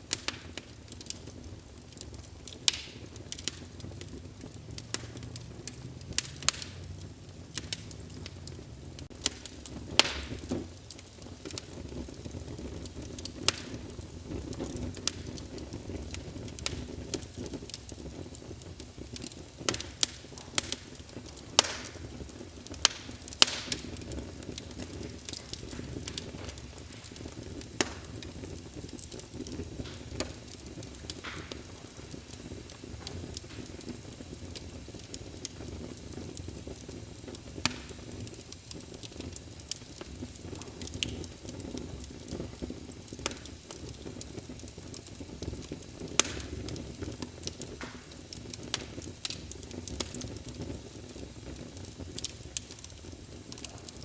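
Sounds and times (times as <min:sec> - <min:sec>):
logs popping and crackling: 0:00.0 - 0:54.0
low rumble of flame: 0:00.0 - 0:54.0.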